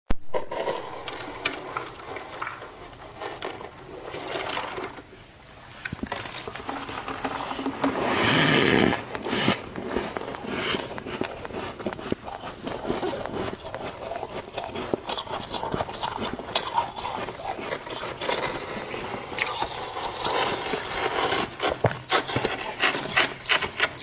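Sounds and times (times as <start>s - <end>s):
frost being scraped: 0.3s - 5.1s, 6.1s - 24.0s.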